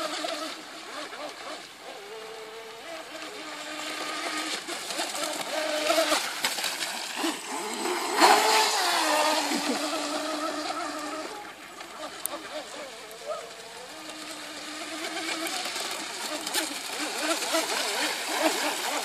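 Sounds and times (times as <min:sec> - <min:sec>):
toy boat motor whining: 0:00.0 - 0:19.0.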